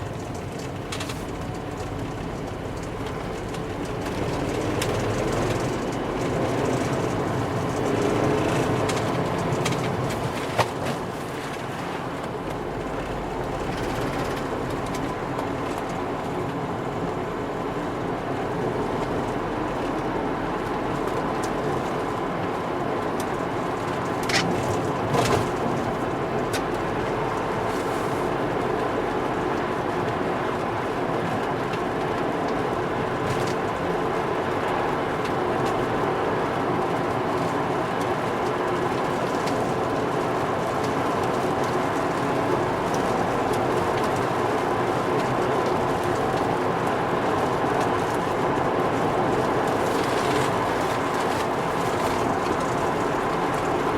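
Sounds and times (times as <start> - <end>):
car engine running: 0.0 - 53.9
road and tyre noise: 0.0 - 53.9.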